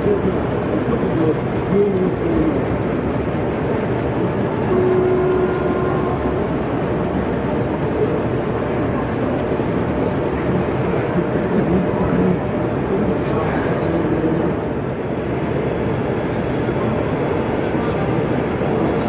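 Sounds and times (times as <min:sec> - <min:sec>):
model trains rumbling: 0:00.0 - 0:19.0
murmuring crowd chatter: 0:00.0 - 0:19.0.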